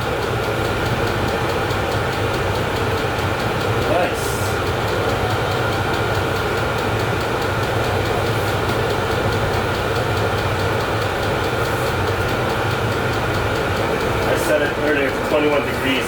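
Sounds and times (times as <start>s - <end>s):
air heater droning: 0.0s - 16.0s.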